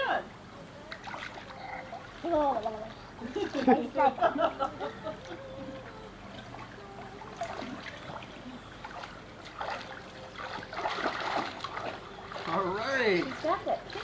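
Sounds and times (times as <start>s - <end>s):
pool water splashing: 0.0s - 14.0s.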